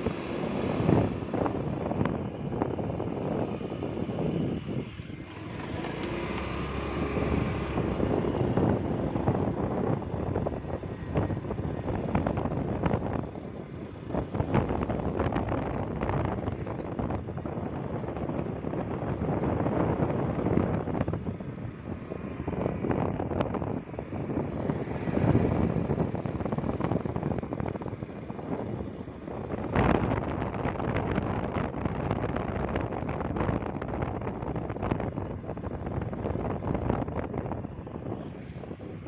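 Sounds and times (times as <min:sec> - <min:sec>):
vehicle road noise: 0:00.0 - 0:39.0
wind buffeting microphone: 0:00.0 - 0:39.0.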